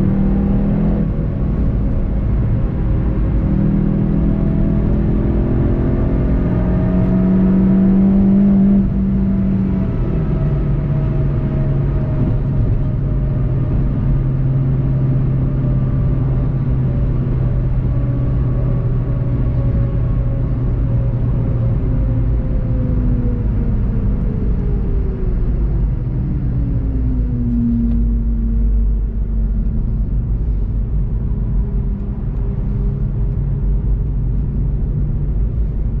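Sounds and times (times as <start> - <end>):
car engine running: 0.0 - 36.0
road and tyre rumble: 0.0 - 36.0.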